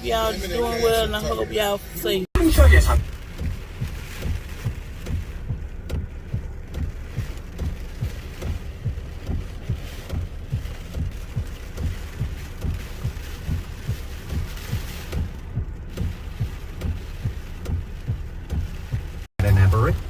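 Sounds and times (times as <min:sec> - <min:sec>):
truck interior rumble: 0:00.0 - 0:20.0
low thumps: 0:02.4 - 0:20.0.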